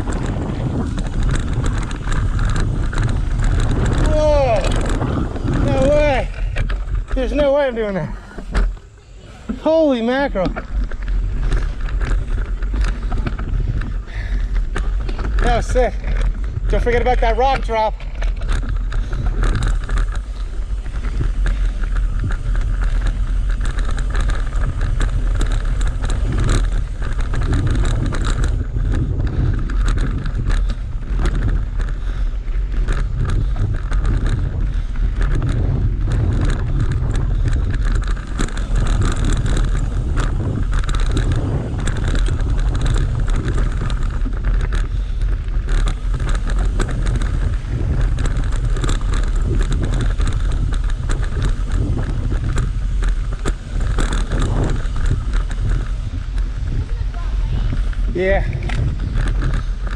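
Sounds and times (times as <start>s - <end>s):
bike rattling and knocking: 0.0s - 59.9s
tyre rumble: 0.0s - 59.9s
wind buffeting microphone: 0.0s - 59.9s.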